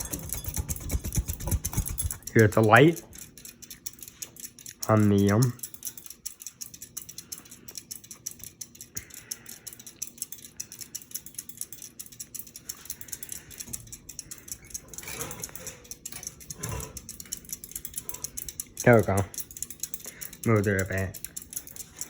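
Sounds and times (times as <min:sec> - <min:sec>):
ceiling fan running: 0:00.0 - 0:22.0
light uneven ticking: 0:00.0 - 0:22.0.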